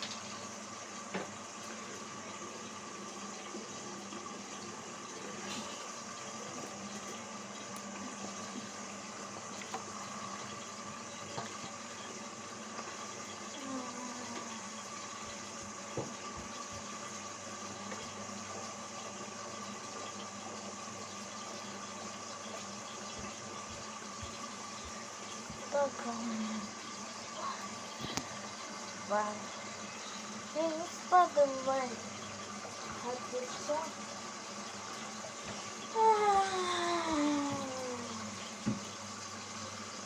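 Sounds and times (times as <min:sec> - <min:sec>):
washing machine water rushing: 0:00.0 - 0:40.0.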